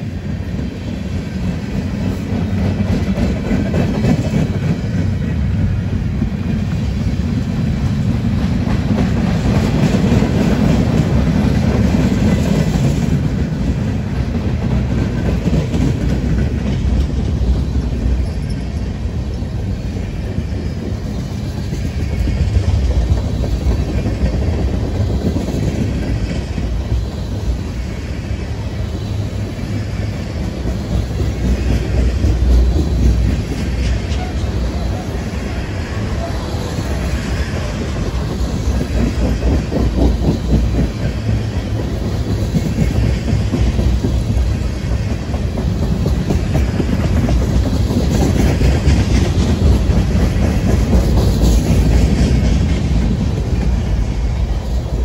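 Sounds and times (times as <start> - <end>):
clickety-clack over rail joints: 0.0 - 55.0
steel wheels rumbling on rails: 0.0 - 55.0.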